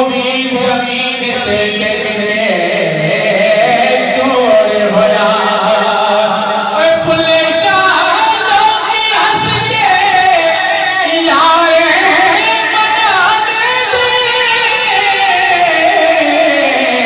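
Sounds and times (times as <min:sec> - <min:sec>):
person singing qawwali: 0:00.0 - 0:17.0.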